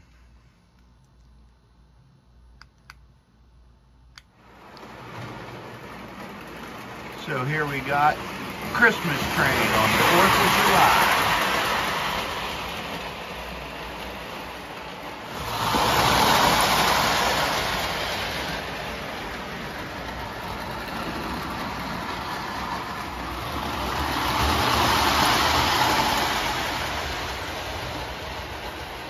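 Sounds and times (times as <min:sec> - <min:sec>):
toy train rattling on track: 0:04.4 - 0:29.0.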